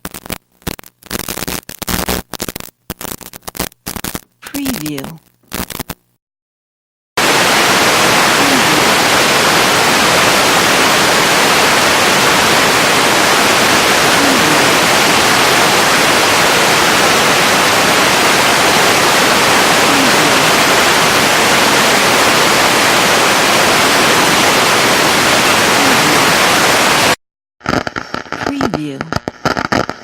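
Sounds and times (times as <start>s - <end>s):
electronic static hiss: 0.0s - 6.2s, 7.2s - 30.0s.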